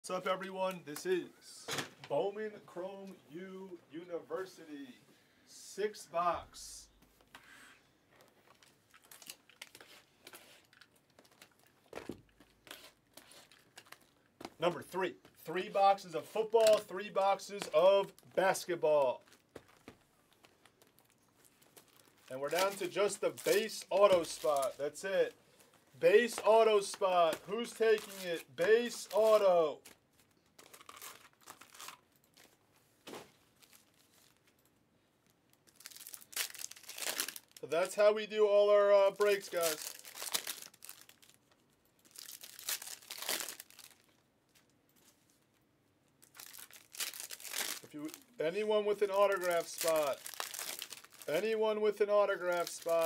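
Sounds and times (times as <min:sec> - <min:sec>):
shrink-wrap crinkling: 0:08.1 - 0:32.8, 0:33.4 - 0:38.0, 0:39.0 - 0:53.0.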